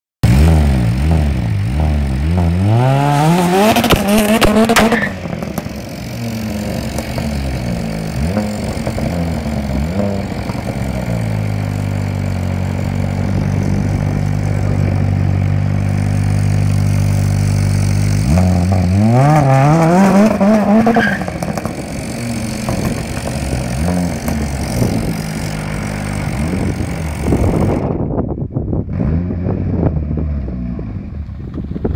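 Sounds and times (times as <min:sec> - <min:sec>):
car engine revving hard: 0:00.2 - 0:27.9.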